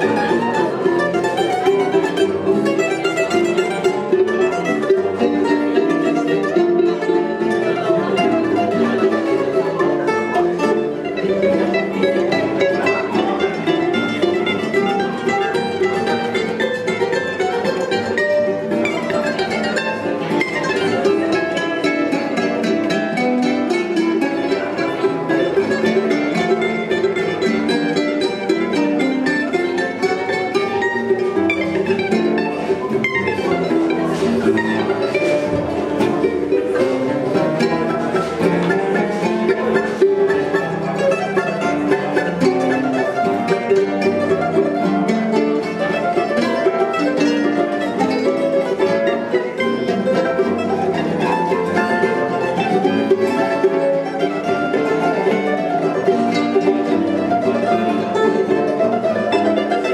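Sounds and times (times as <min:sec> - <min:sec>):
acoustic string ensemble playing: 0:00.0 - 0:59.9.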